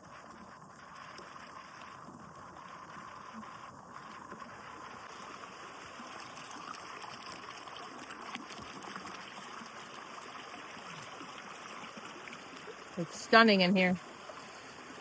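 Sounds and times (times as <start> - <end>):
creek water flowing over rocks: 0.0 - 15.0.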